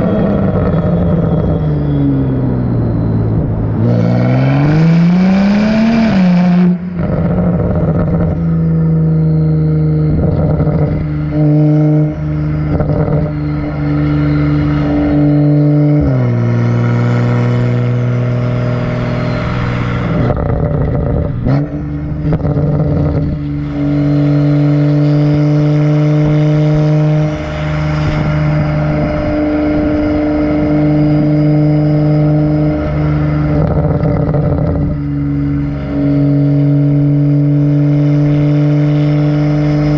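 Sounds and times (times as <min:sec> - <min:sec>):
car exhaust droning and revving: 0:00.0 - 0:39.9.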